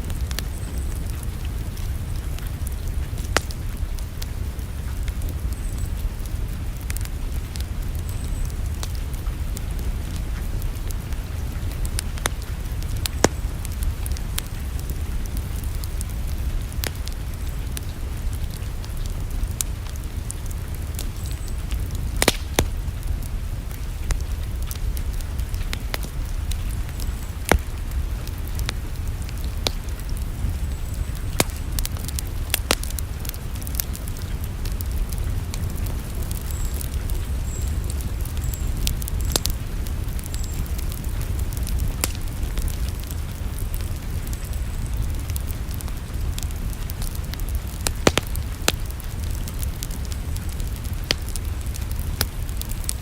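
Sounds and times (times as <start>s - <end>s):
fire crackling and popping: 0.0s - 53.0s
low rumble of fire: 0.0s - 53.0s.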